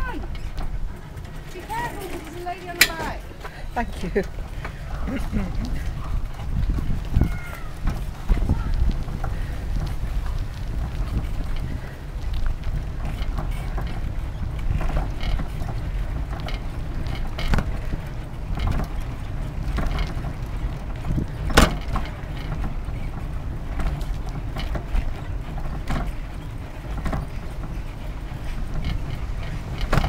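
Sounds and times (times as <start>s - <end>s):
bicycle rolling on pavement: 0.0s - 30.0s
bike rattles and clicks: 0.0s - 30.0s.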